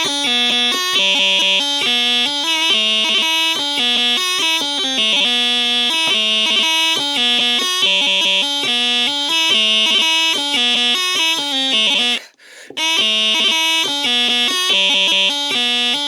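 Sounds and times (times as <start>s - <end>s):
bagpipe chanter melody: 0.0s - 16.0s.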